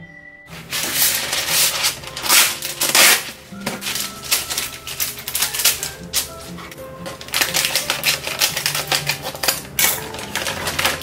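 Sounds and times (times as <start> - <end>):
soft background music: 0.0 - 11.0
paper rustling and crinkling: 0.5 - 11.0.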